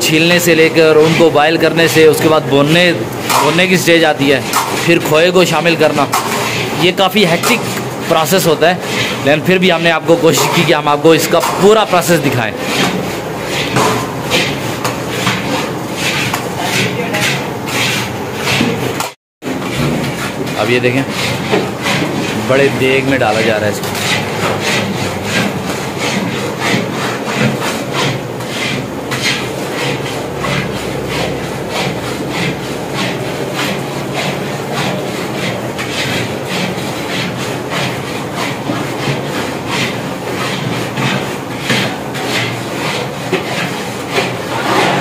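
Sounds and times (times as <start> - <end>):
ladle scraping metal pot: 0.0 - 45.0.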